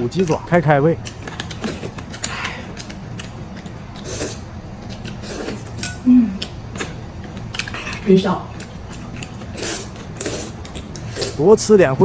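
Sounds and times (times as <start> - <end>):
person chewing crunchy food: 1.0 - 11.4.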